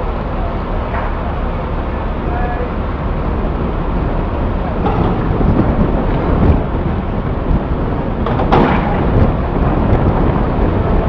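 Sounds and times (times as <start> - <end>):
heavy machinery rumble: 0.0 - 11.0.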